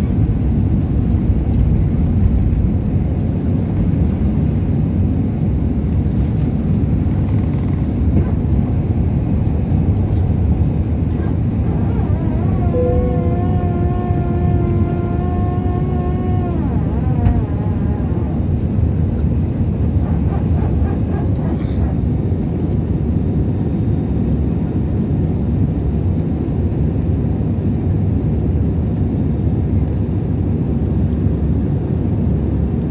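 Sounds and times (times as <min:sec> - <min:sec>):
airliner cabin engine rumble: 0:00.0 - 0:32.8.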